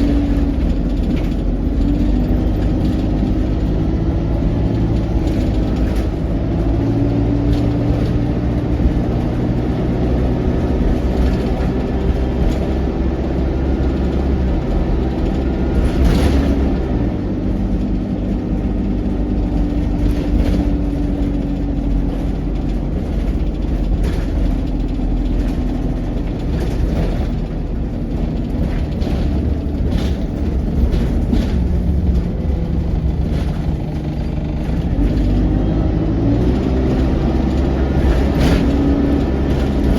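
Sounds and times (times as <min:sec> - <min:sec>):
bus engine drone: 0:00.0 - 0:39.9
rattles and knocks: 0:00.0 - 0:39.9.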